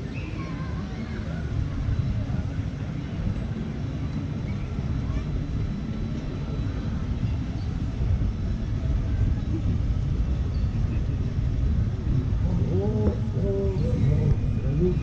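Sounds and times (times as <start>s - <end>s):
water raft ride rumble: 0.0s - 15.0s.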